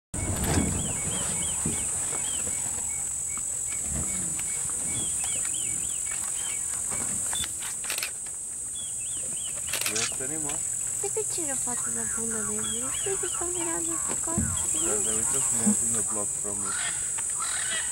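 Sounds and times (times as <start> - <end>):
bird calling: 0.2 - 7.6, 8.7 - 17.9
high-pitched insect drone: 0.2 - 17.9.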